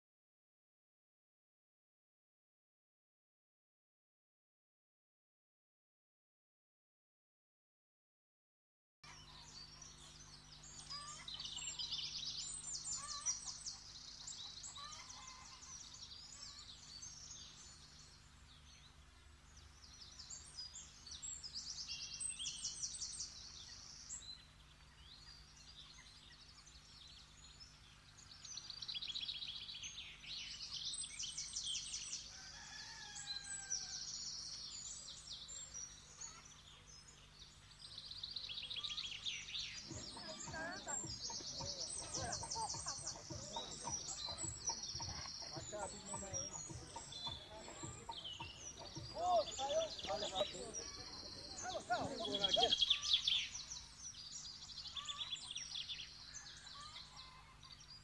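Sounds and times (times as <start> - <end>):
small birds chirping and trilling: 9.0 - 58.0.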